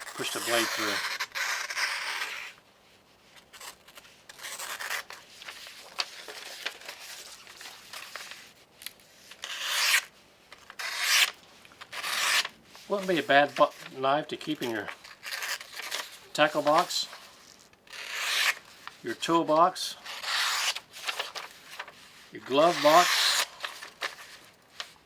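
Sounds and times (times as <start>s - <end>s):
knife blade scraping paper: 0.0s - 2.6s, 3.5s - 8.4s, 9.3s - 10.1s, 10.7s - 13.9s, 14.6s - 19.2s, 20.0s - 25.0s.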